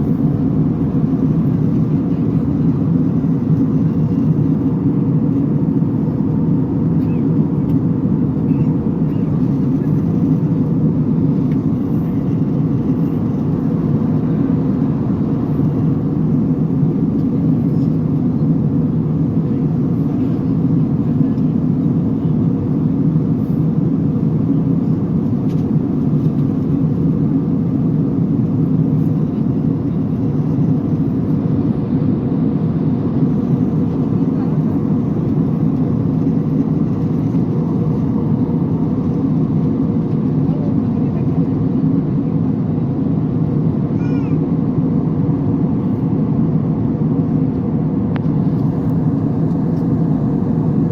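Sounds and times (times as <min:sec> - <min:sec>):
jet cabin engine drone: 0:00.0 - 0:50.9.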